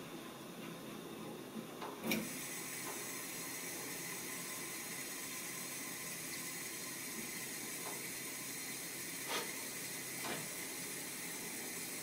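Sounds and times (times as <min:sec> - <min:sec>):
gas hissing from hob burner: 0:02.2 - 0:12.0.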